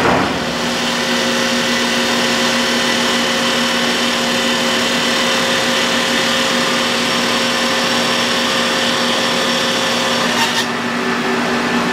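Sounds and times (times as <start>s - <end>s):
saw blade cutting glass: 0.3s - 10.8s.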